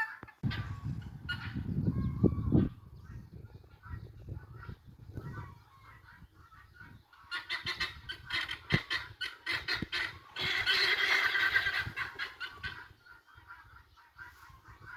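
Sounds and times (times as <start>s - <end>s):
domestic fowl calling: 0.0s - 2.7s, 5.3s - 14.9s.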